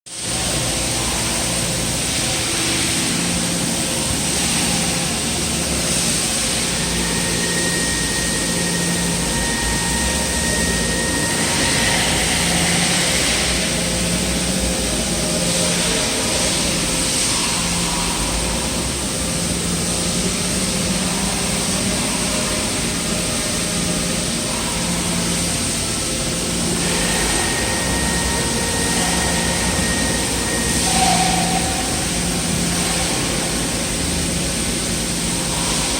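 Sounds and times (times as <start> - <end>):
low pulsing hum: 0.1 - 35.9
machine running with hiss: 0.1 - 35.9
thin high whine: 0.1 - 35.9.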